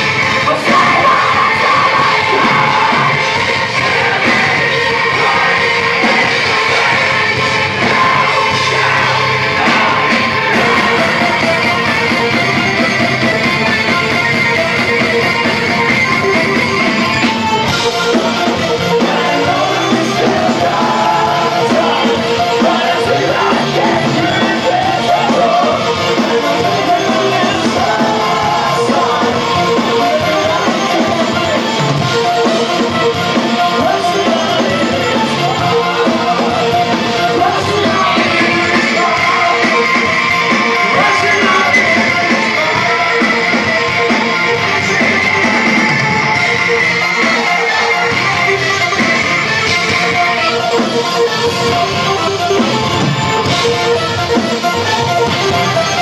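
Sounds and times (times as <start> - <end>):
heavy rock band playing live: 0.0 - 56.0.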